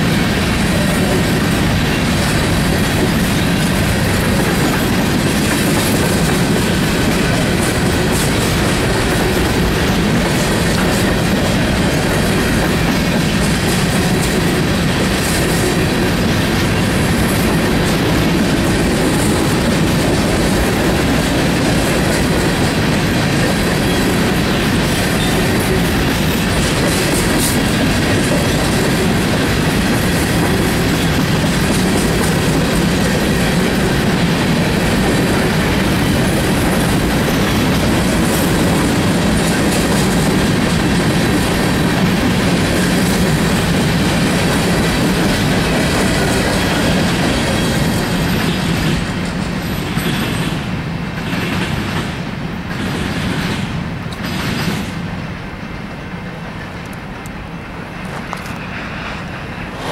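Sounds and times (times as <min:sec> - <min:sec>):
train rumbling past: 0:00.0 - 0:59.9
wheels clacking over rail joints: 0:00.0 - 0:59.9.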